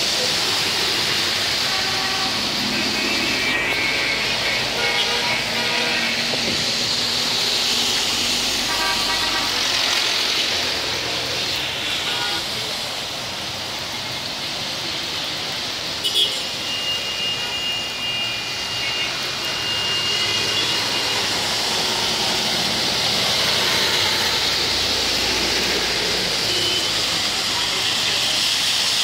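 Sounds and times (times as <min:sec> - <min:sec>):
heavy rain hissing: 0:00.0 - 0:29.0
traffic swishing on flooded road: 0:00.0 - 0:29.0.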